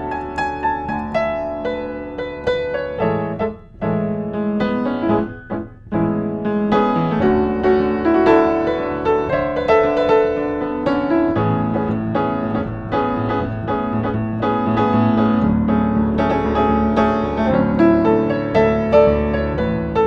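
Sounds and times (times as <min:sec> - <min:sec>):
upright piano playing melody: 0:00.0 - 0:20.0.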